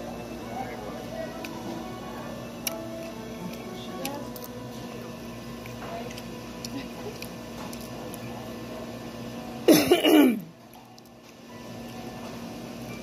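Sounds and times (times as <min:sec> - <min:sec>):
dining room background: 0:00.0 - 0:13.0.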